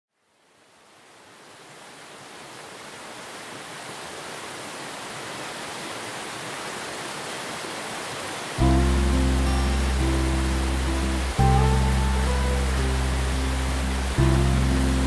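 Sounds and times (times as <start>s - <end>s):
water rushing in rocky stream: 1.2s - 15.0s.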